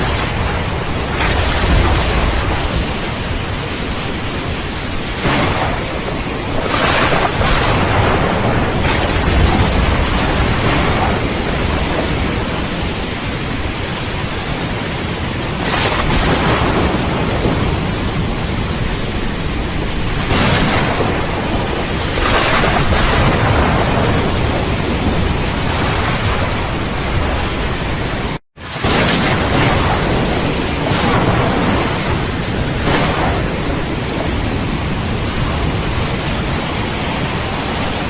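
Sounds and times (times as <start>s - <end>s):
heavy rain: 0.0s - 38.0s
low rumbling thunder: 0.0s - 38.0s.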